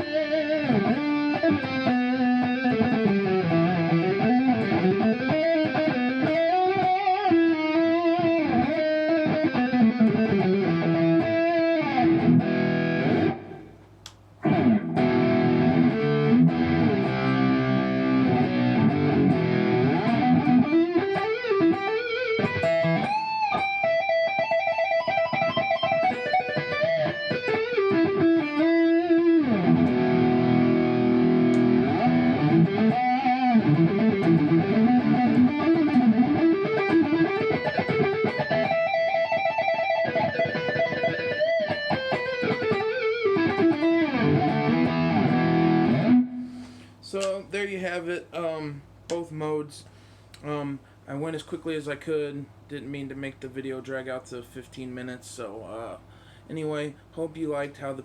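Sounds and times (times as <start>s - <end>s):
electric guitar melody: 0.0s - 46.9s.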